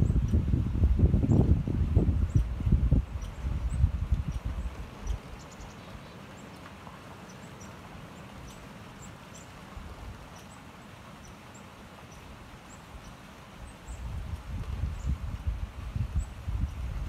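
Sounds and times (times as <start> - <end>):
small birds chirping: 0.0 - 17.0
stream rushing: 0.0 - 17.0.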